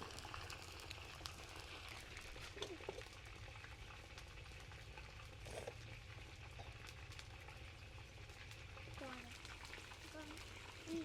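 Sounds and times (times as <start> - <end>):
pot crackling and bubbling: 0.0 - 11.0.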